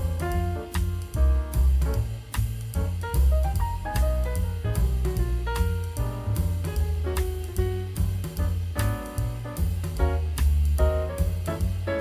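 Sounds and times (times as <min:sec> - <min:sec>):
instrumental jazz music: 0:00.0 - 0:12.0.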